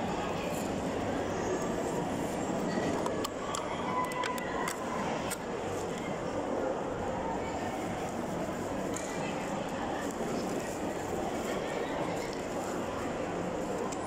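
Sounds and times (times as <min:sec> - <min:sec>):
crowd chatter in a large hall: 0:00.0 - 0:14.0.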